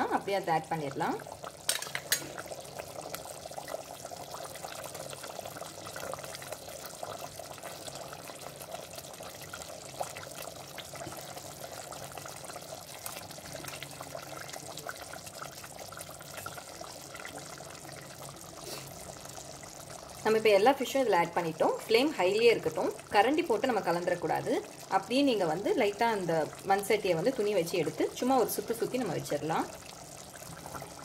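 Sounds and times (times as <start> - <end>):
curry bubbling and popping: 0.0 - 31.0.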